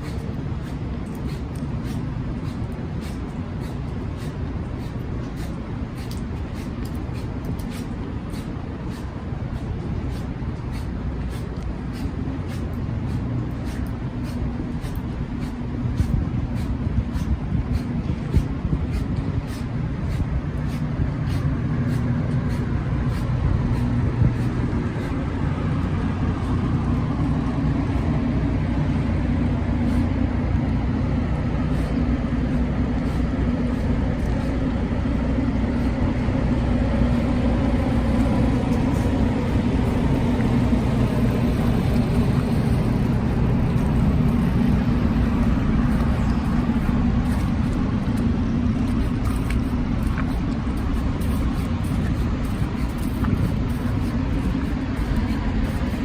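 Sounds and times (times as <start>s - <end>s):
vehicle engines humming: 0.0s - 56.0s.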